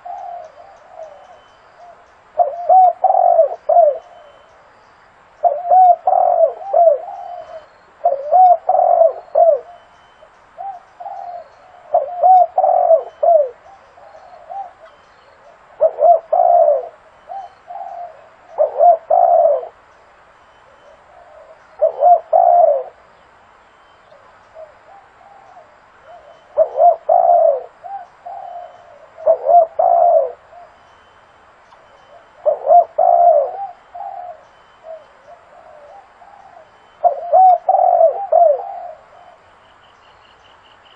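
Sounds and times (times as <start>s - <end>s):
dove cooing: 0.0s - 4.6s, 5.4s - 19.8s, 20.7s - 23.1s, 24.0s - 31.1s, 31.7s - 39.6s.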